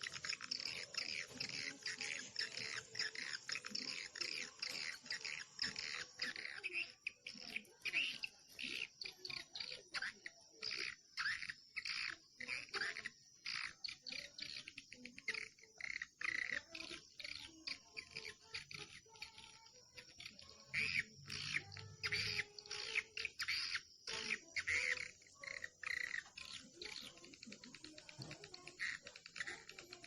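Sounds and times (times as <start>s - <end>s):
bird chirping harshly: 0.0s - 30.0s.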